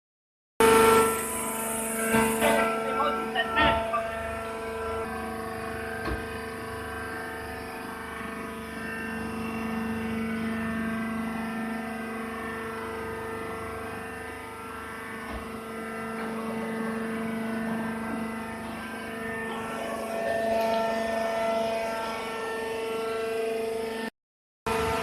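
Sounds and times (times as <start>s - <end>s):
baler machine humming: 0.6s - 24.1s, 24.7s - 25.0s.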